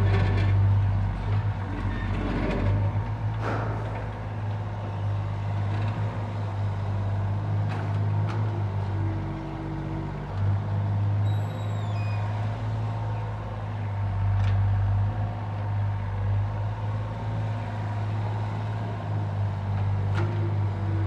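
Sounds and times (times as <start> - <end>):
heavy machinery engine drone: 0.0 - 21.0.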